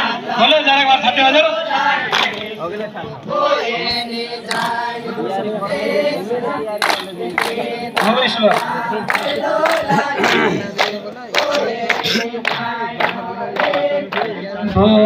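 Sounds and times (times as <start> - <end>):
group singing devotional song: 0.0 - 15.0.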